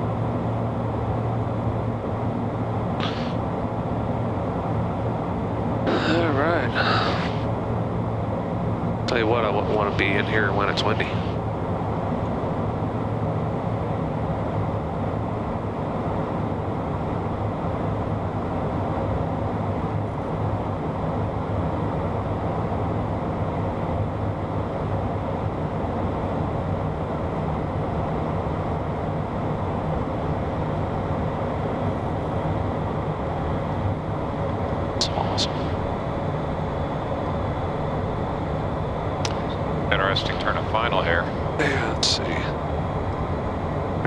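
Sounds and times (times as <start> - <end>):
jet cockpit airflow and engine: 0.0 - 44.0
low hum: 0.0 - 44.0.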